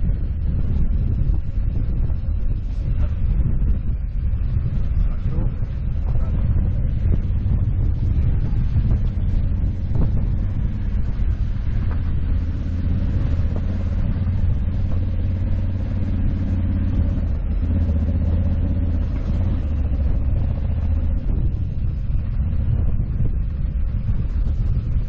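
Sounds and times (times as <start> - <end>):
motorcycle engine running: 0.0 - 25.0
tyre and wind noise: 0.0 - 25.0.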